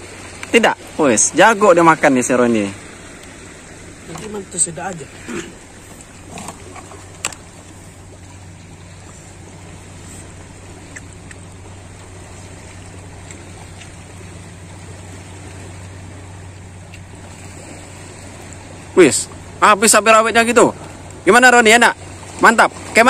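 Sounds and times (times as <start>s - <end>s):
low constant hum: 0.0s - 23.0s.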